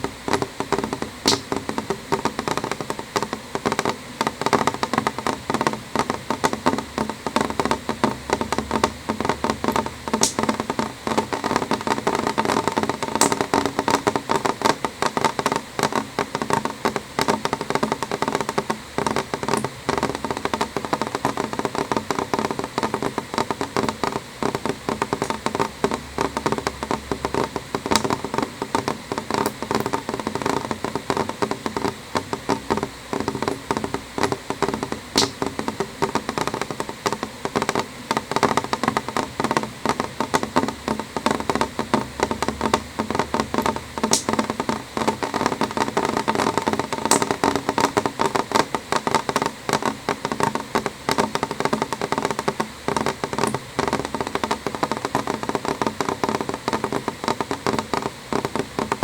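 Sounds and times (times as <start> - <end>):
rain tapping on window glass: 0.0 - 59.0.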